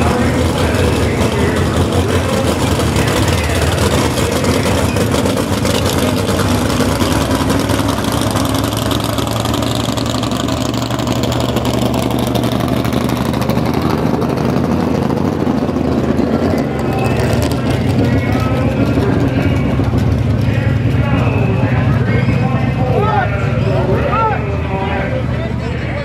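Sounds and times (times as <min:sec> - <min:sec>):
truck engine with exhaust rasp: 0:00.0 - 0:26.0.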